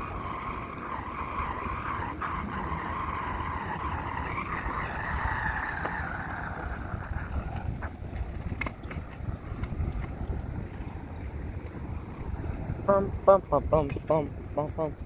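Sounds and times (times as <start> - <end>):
bicycle tyres hissing on road: 0.0 - 12.9
wind rumbling on microphone: 0.0 - 15.0.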